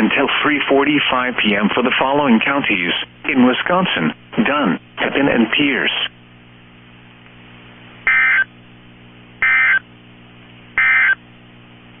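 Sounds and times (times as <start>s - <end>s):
steady low receiver hum: 0.0s - 12.0s.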